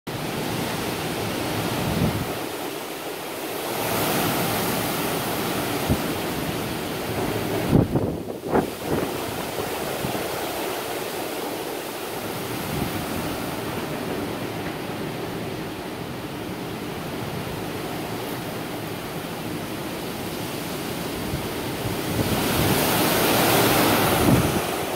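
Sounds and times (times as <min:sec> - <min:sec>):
wind buffeting microphone: 0:00.1 - 0:02.8, 0:03.6 - 0:24.9.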